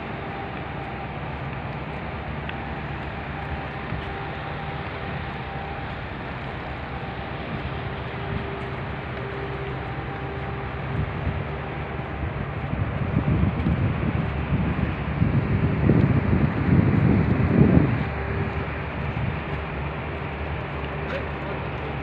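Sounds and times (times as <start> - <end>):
faint steady hum: 0.0 - 22.0
low vehicle rumble: 0.0 - 22.0.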